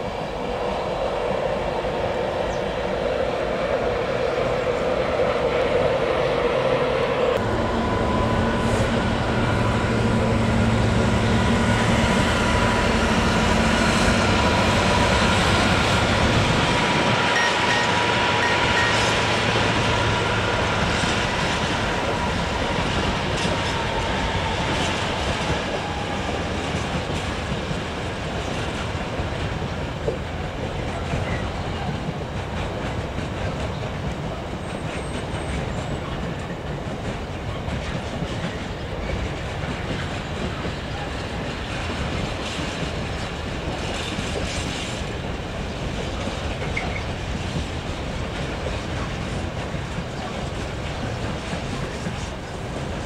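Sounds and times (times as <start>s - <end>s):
train wheels clattering: 7.4s - 53.0s.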